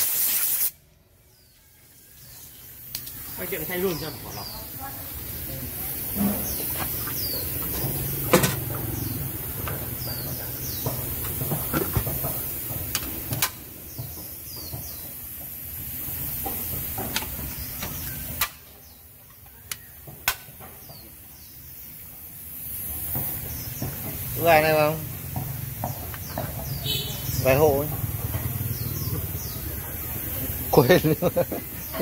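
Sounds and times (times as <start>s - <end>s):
small birds chirping: 1.0s - 32.0s.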